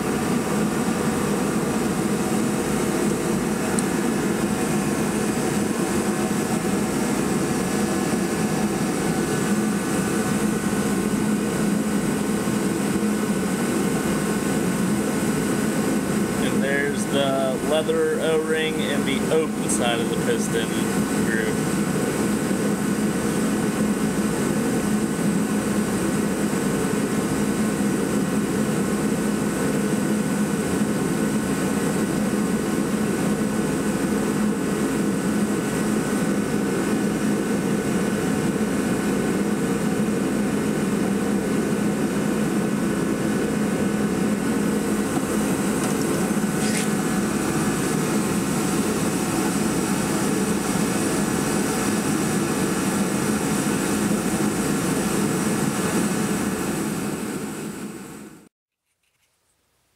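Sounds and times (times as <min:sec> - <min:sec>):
machine humming: 0:00.0 - 0:57.8.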